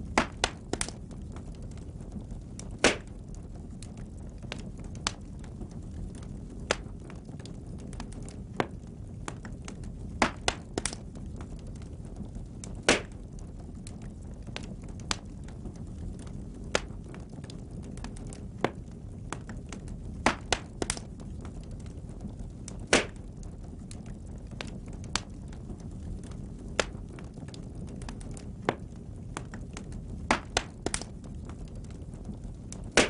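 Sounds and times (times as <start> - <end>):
low rumble of flames: 0.0 - 33.0
wood crackles and pops: 0.0 - 33.0.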